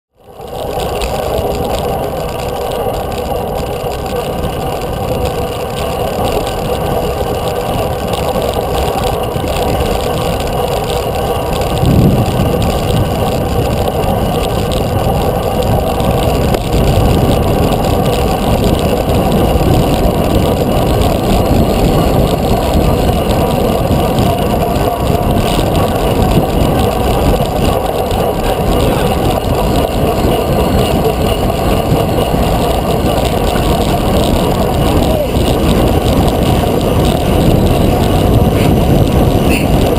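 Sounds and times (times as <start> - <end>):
wind buffeting microphone: 0.3 - 39.9.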